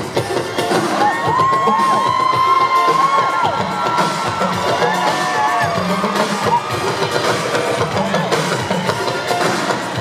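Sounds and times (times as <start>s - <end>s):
synth-pop band playing: 0.0s - 10.0s
audience cheering and whooping: 0.1s - 10.0s.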